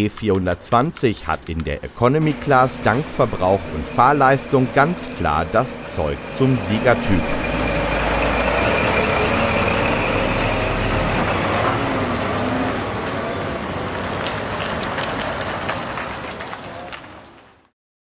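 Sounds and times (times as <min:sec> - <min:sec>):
diesel truck passing: 0:01.3 - 0:17.7.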